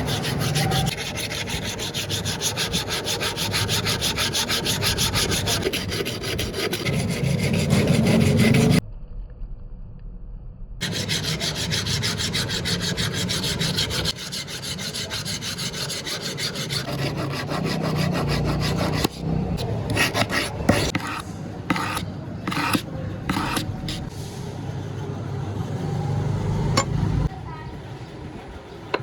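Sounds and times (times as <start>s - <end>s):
rasping file strokes: 0.0s - 8.8s, 10.8s - 25.8s.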